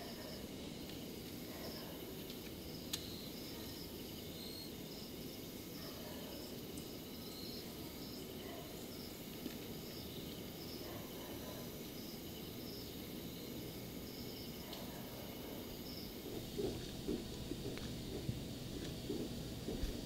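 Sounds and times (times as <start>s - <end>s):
crickets chirping: 0.0s - 20.0s
low steady background noise: 0.0s - 20.0s.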